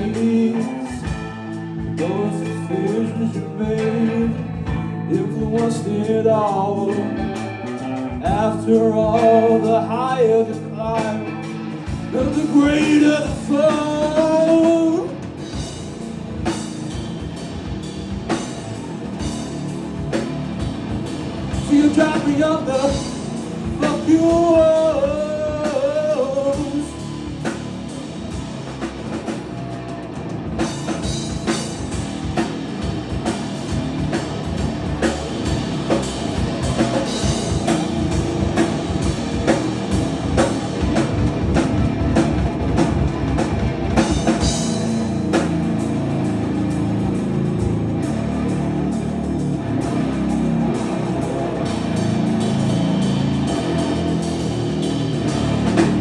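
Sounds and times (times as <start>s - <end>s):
hard rock band playing: 0.0s - 56.0s.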